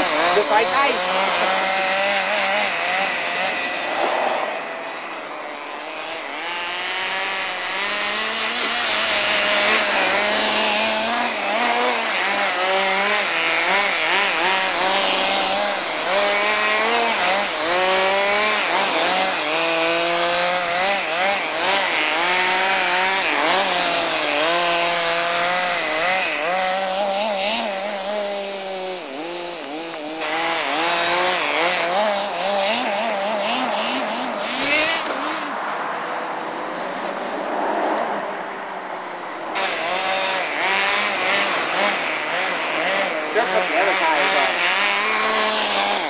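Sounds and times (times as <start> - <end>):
toy truck motor buzzing: 0.0 - 36.0, 39.5 - 46.0.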